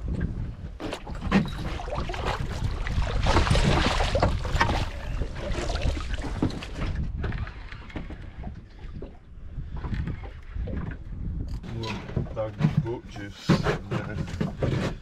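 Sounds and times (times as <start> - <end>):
knocks and splashes: 0.0 - 15.0
water noise: 0.0 - 15.0
wind: 0.0 - 15.0.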